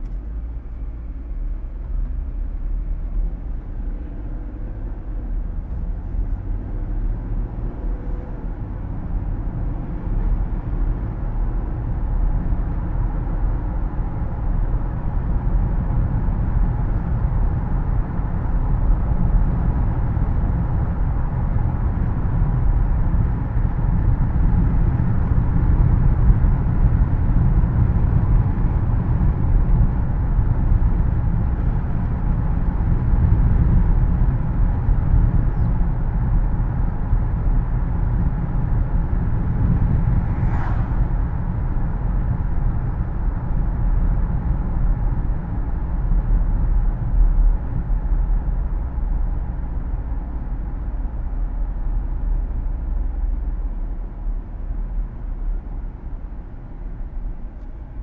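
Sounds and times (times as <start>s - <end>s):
low road rumble: 0.0s - 58.0s.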